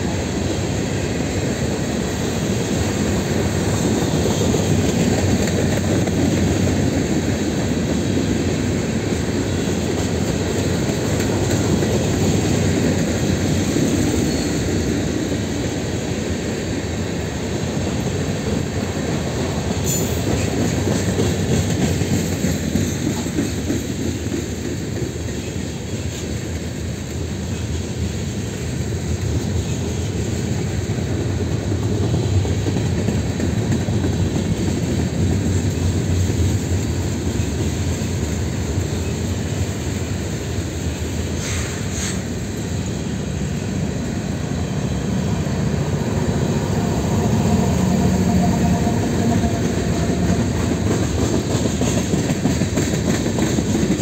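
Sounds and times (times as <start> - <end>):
steel wheels running on rail: 0.0 - 54.0.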